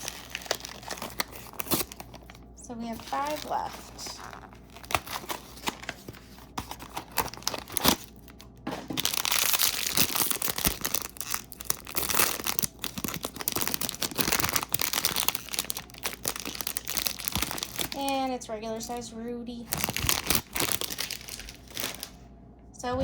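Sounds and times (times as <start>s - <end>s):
plastic bag tearing and crinkling: 0.0s - 19.0s, 19.7s - 22.2s.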